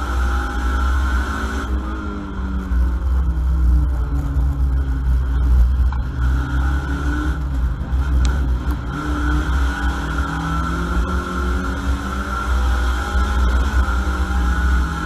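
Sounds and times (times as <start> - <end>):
race car engine running hard: 0.0 - 15.0.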